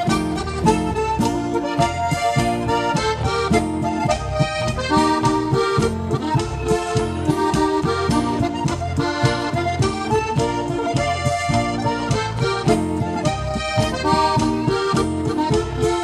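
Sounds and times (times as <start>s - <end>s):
acoustic guitar: 0.0s - 16.0s
button accordions playing folk music: 0.0s - 16.0s.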